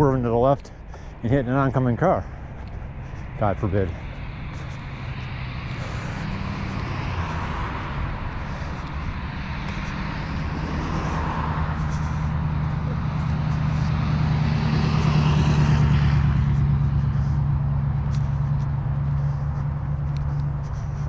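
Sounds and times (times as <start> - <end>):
steady low drone: 0.0 - 21.0
truck engine and tyre noise: 0.0 - 21.0.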